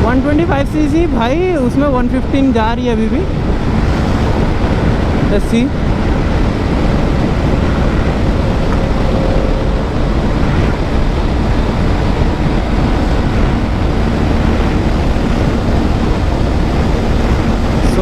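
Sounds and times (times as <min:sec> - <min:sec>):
motorcycle engine at full throttle: 0:00.0 - 0:18.0
wind rush on microphone: 0:00.0 - 0:18.0.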